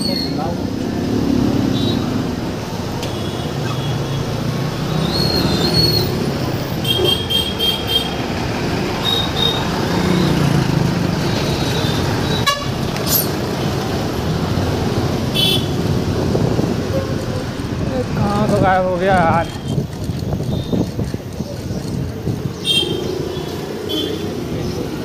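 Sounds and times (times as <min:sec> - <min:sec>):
street traffic engines: 0:00.0 - 0:25.0.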